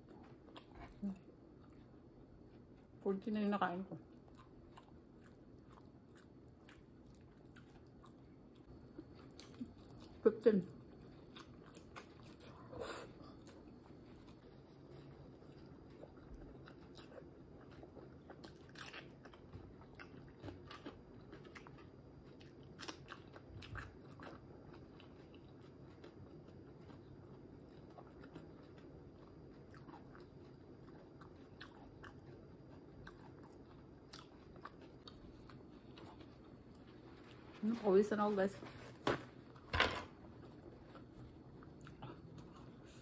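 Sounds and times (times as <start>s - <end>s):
chewing with mouth clicks: 4.0s - 37.0s, 40.9s - 43.0s.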